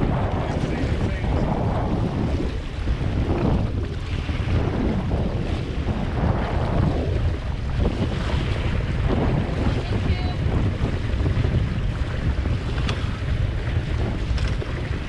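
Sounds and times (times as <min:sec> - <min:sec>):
water splashing along hull: 0:00.0 - 0:15.0
wind buffeting microphone: 0:00.0 - 0:15.0.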